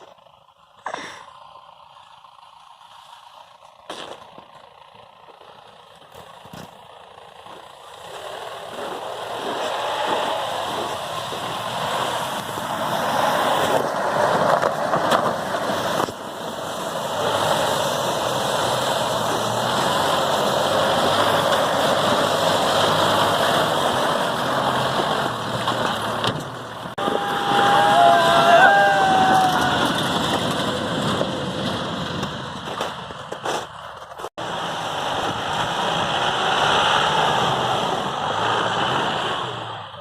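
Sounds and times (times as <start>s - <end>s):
off-road vehicle engine running: 0.0s - 40.0s
road noise: 0.0s - 40.0s.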